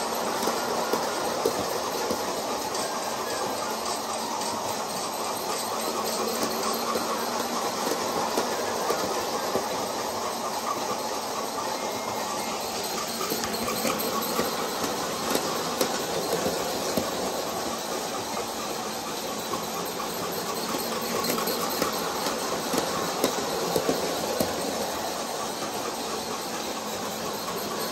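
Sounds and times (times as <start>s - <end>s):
model locomotive running: 0.0s - 27.9s
wheels clicking on rails: 0.0s - 27.9s.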